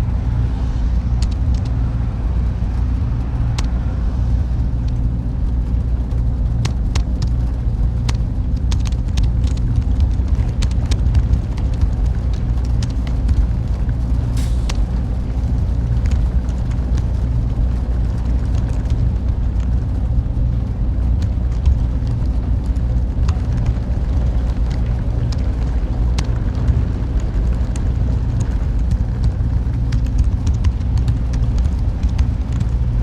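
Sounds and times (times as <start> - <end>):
cooling fans humming: 0.0 - 33.0
faint clicks and ticks: 2.7 - 33.0.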